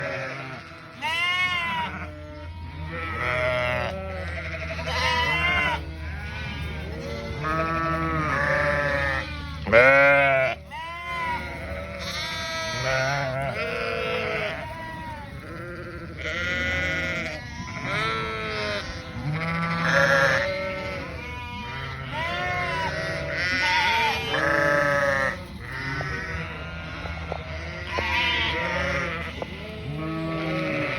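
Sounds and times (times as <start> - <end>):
lambs bleating: 0.0 - 30.9.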